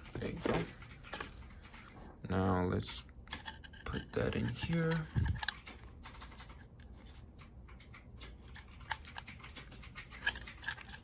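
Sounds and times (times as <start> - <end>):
small clicks and scraping: 0.0 - 2.1, 2.8 - 11.0.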